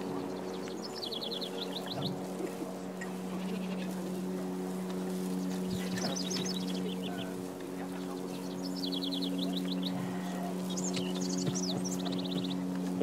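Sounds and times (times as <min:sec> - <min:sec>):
songbird trilling: 0:00.0 - 0:04.0, 0:05.4 - 0:12.6
steady low hum: 0:00.0 - 0:13.0.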